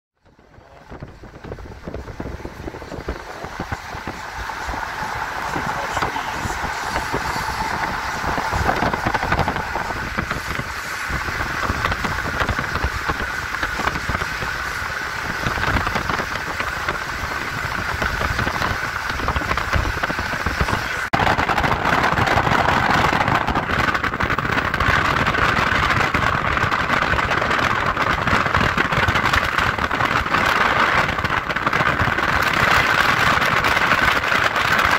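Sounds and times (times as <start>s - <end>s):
car road and wind noise: 0.2s - 34.9s.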